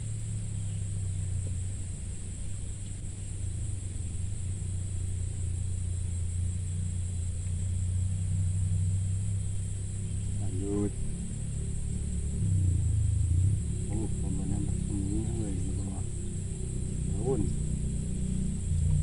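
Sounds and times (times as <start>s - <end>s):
faint high hiss: 0.0s - 19.0s
low engine-like hum: 0.0s - 19.0s.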